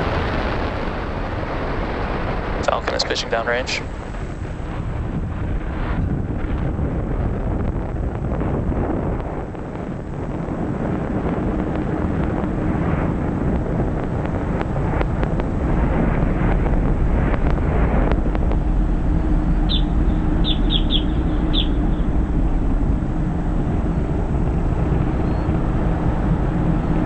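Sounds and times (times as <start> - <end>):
rocket engines roaring: 0.0 - 27.0.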